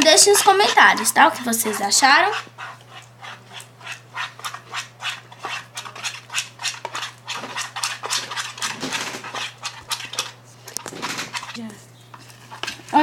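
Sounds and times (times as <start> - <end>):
low electrical hum: 0.0 - 13.0
spoon stirring sticky slime: 0.0 - 13.0.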